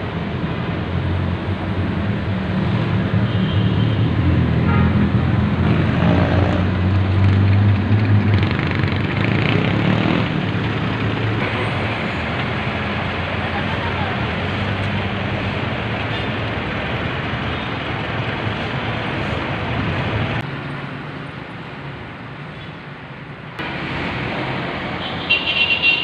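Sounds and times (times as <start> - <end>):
busy street traffic: 0.0 - 26.0.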